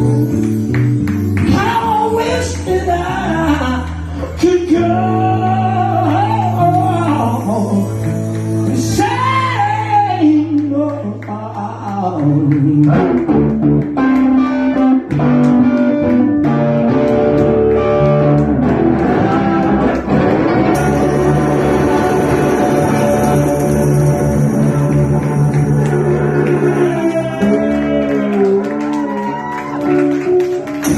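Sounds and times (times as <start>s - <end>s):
bass guitar: 0.0s - 30.9s
electric guitars: 0.0s - 30.9s.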